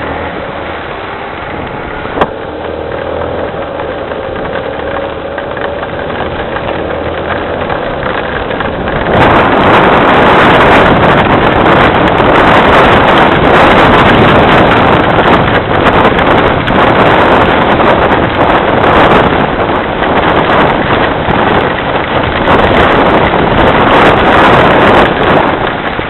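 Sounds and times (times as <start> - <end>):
harsh rushing noise: 0.0 - 26.0
rain falling: 0.0 - 26.0.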